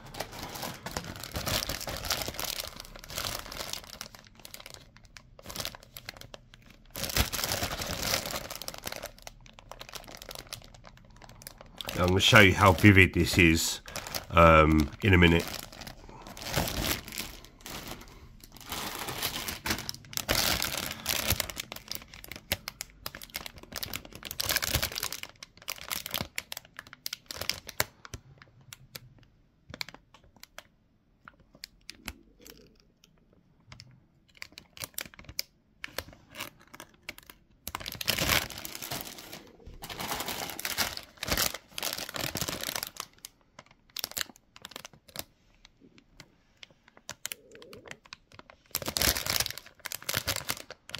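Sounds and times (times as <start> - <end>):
plastic bags crinkling: 0.0 - 28.1, 33.8 - 50.9.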